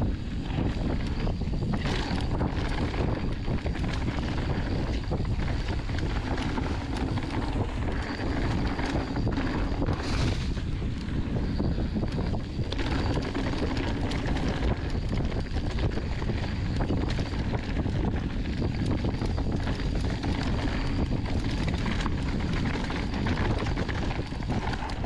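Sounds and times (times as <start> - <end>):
bike rattles and knocks: 0.0 - 25.0
bike tyres rolling on dirt: 0.0 - 25.0
wind rushing over microphone: 0.0 - 25.0.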